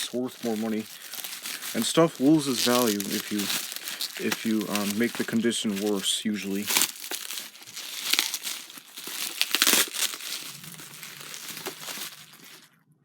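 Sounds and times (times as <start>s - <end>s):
packaging wrap crinkling: 0.0s - 12.8s.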